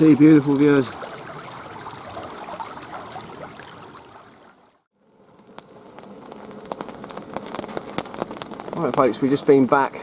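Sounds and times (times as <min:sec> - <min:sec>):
creek water running: 0:00.0 - 0:10.0
steady rain: 0:00.0 - 0:10.0.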